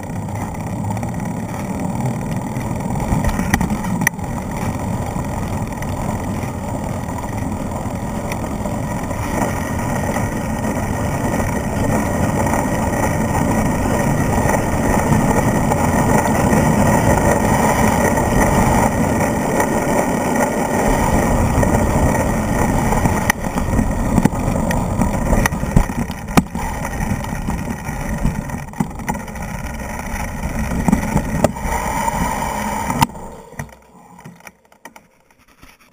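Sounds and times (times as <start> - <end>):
wind rumble on microphone: 0.0 - 34.4
bike rattling: 0.0 - 35.9
tyres rolling on dirt: 0.0 - 35.9.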